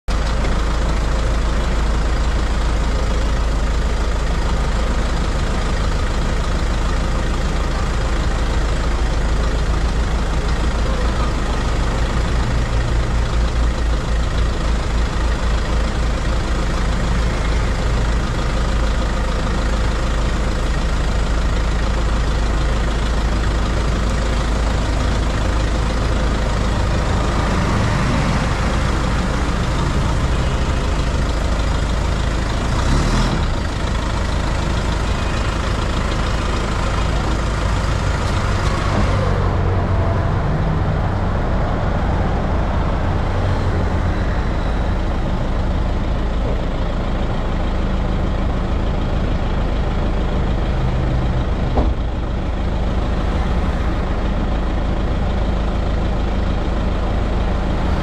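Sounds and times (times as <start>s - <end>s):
vehicle underbody rumble: 0.0s - 58.0s.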